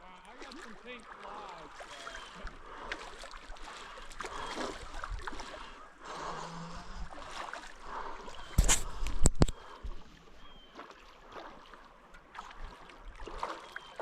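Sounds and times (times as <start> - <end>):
creek water running and splashing: 0.0 - 14.0.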